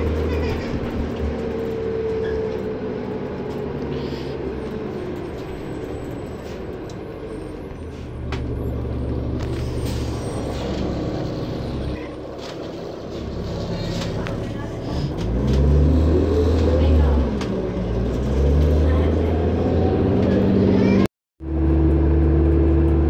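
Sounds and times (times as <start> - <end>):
bus engine and road drone: 0.0 - 23.0.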